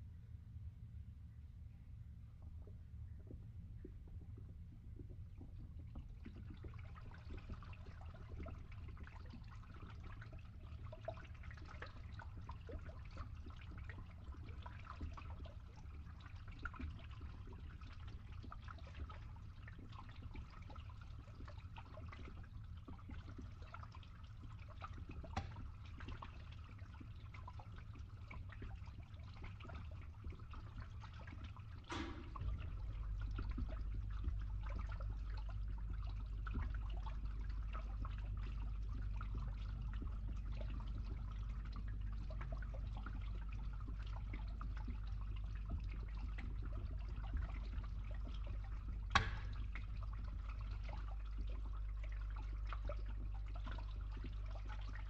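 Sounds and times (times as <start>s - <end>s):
steady low rumble: 0.0s - 21.4s, 27.2s - 55.0s
water gurgling through a pipe: 2.3s - 55.0s.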